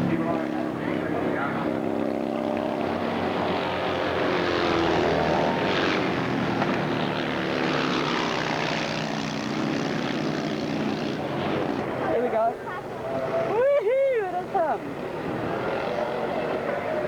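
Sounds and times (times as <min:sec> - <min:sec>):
racing motorcycles passing: 0:00.0 - 0:17.0.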